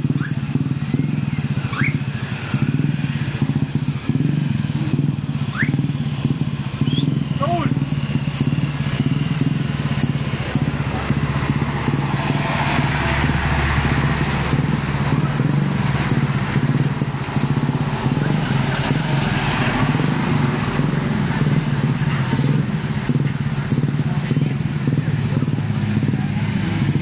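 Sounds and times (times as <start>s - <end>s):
motor vehicle engines running: 0.0s - 27.0s
road noise: 0.0s - 27.0s.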